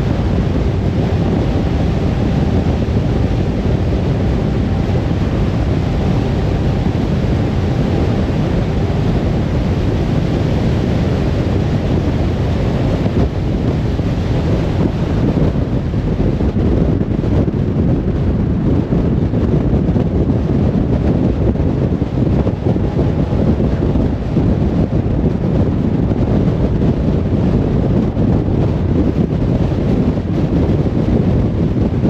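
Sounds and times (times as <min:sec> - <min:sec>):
faint hum: 0:00.0 - 0:32.0
tyres rumbling on road: 0:00.0 - 0:32.0
wind noise: 0:00.0 - 0:32.0.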